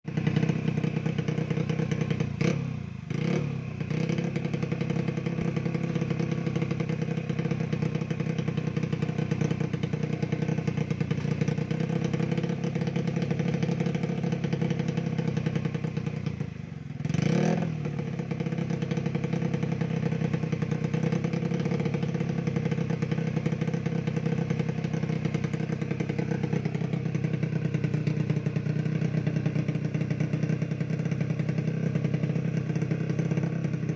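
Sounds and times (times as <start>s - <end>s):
scooter engine running: 0.0s - 33.9s.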